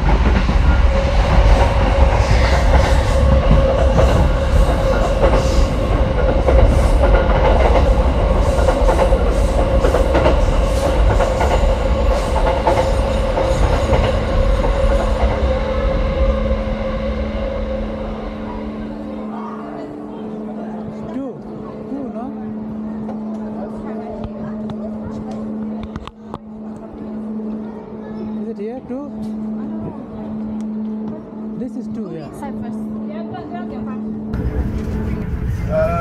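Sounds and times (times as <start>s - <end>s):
train wheel rumble: 0.0s - 28.4s, 32.2s - 36.0s.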